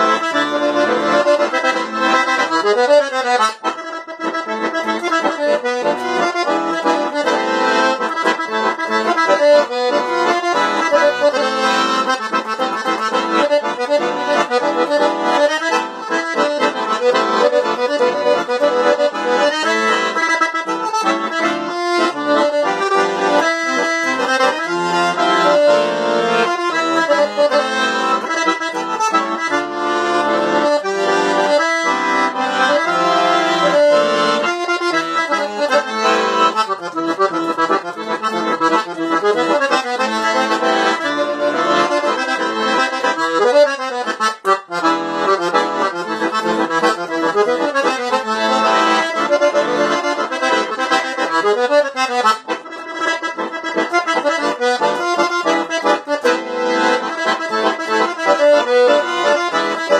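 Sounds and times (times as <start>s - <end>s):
button accordion melody: 0.0s - 59.9s.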